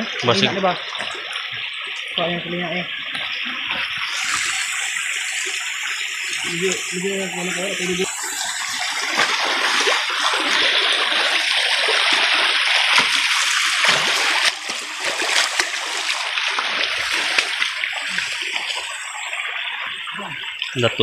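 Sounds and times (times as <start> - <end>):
stream water rushing: 0.0 - 20.8
wading splashes: 0.0 - 21.0.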